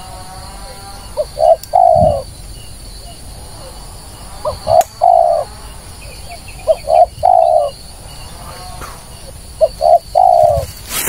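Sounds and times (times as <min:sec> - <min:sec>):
dove cooing: 0:00.0 - 0:10.8
small bird chirping: 0:00.0 - 0:11.0.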